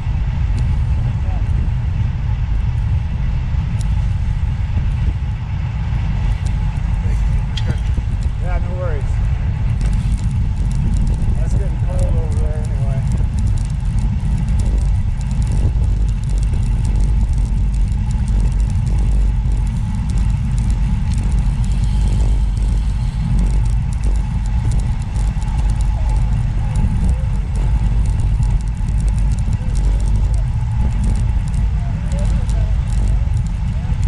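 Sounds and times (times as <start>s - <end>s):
vehicle rumbling in motion: 0.0s - 34.0s.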